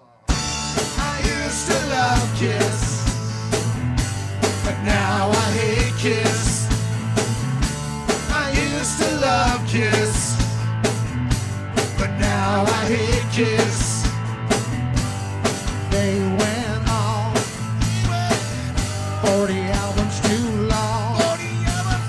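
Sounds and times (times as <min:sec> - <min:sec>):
bending lead melody: 0:00.3 - 0:22.0
drum kit beat: 0:00.3 - 0:22.0
steady bass line: 0:00.3 - 0:22.0.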